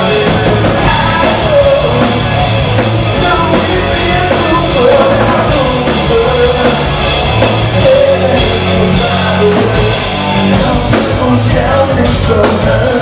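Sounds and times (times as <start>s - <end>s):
bass guitar: 0.0s - 13.0s
drum kit: 0.0s - 13.0s
electric guitars: 0.0s - 13.0s.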